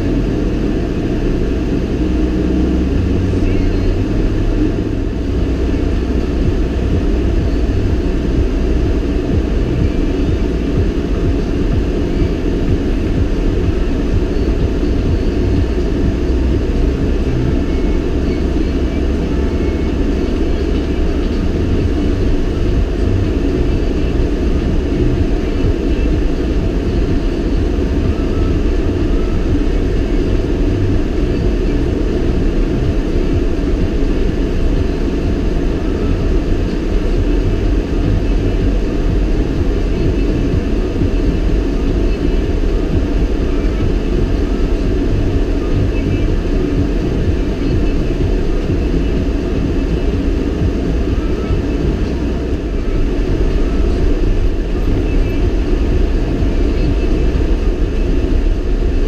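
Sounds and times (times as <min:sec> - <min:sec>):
vehicle engine rumble: 0:00.0 - 0:59.0.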